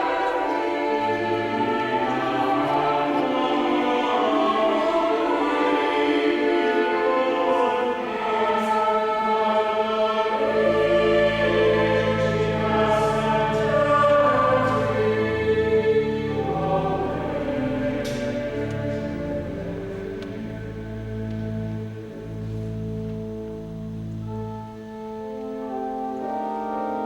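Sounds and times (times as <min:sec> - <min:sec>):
choir singing: 0:00.0 - 0:22.6.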